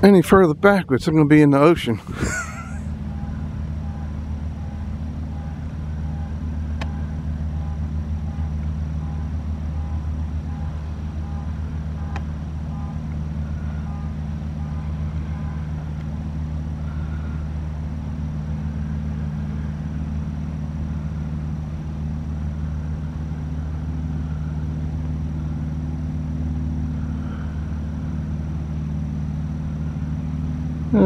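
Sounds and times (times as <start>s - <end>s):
engine droning: 0.0s - 31.0s.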